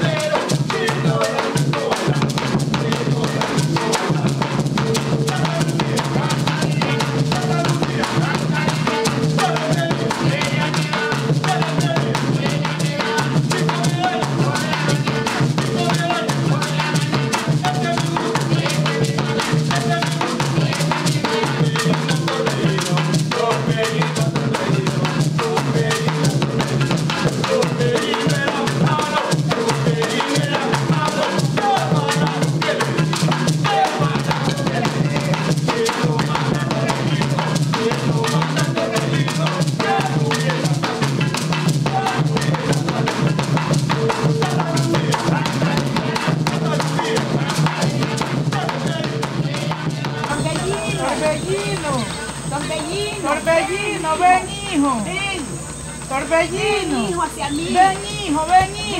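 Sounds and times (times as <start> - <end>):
steady drumming: 0.0 - 58.9.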